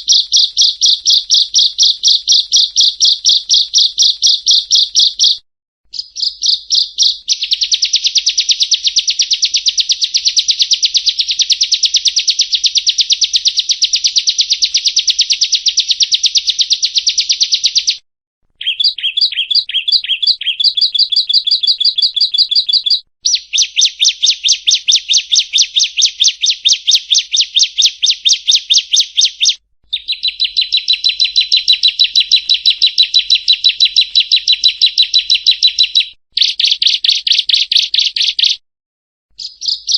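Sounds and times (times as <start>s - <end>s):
bird singing fast trills: 0.0s - 18.0s, 18.6s - 38.6s, 39.3s - 39.9s.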